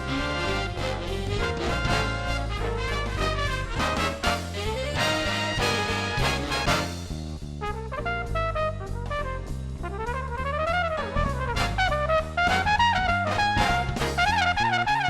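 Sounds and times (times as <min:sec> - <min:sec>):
bass: 0:00.0 - 0:15.0
drum kit: 0:00.0 - 0:15.0
trombone: 0:00.0 - 0:15.0
trumpet melody: 0:00.0 - 0:15.0.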